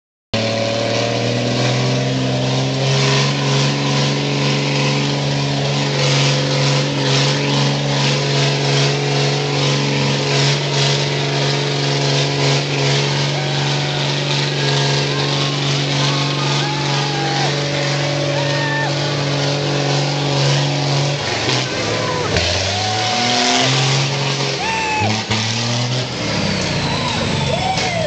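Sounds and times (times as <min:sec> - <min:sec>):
truck diesel engine running: 0:00.4 - 0:28.0.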